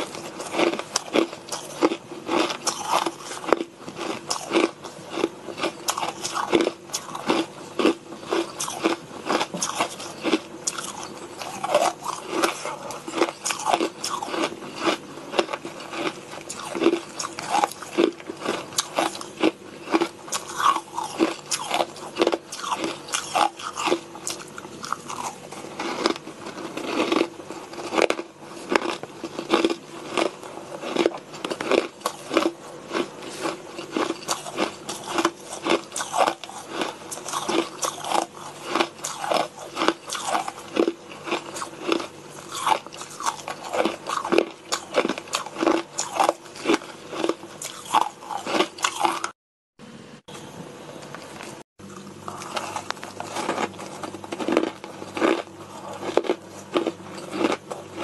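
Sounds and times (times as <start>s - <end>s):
shaved ice crunching: 0.1s - 49.3s, 52.3s - 58.0s.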